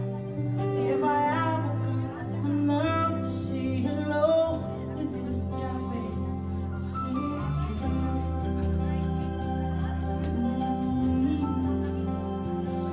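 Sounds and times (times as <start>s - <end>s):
band playing pop song: 0.0s - 12.9s
person singing: 0.0s - 12.9s.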